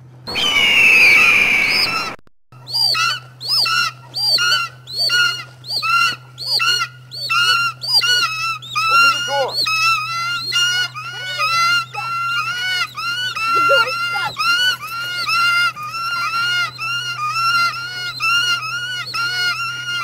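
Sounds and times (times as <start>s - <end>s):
steady low hum: 0.0s - 20.0s
bird squawks: 0.3s - 20.0s.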